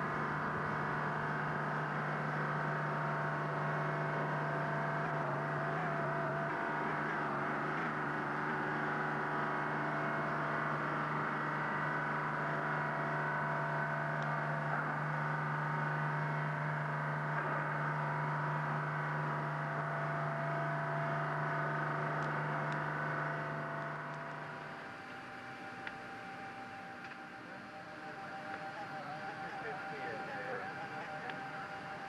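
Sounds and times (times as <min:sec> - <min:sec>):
high turbine whine: 0:00.0 - 0:32.0
hovercraft engines humming: 0:00.0 - 0:32.0.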